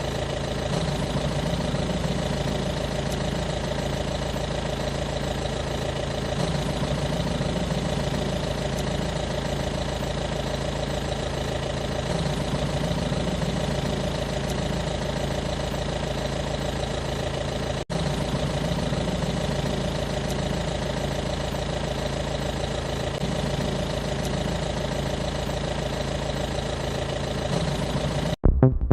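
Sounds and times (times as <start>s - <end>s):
engine idling: 0.0s - 28.4s.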